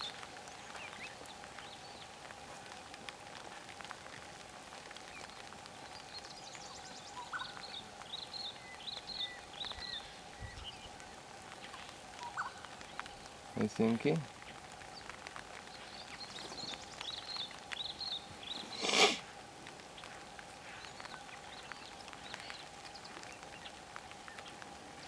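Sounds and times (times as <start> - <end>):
small birds chirping: 0.0 - 4.1, 4.7 - 25.0.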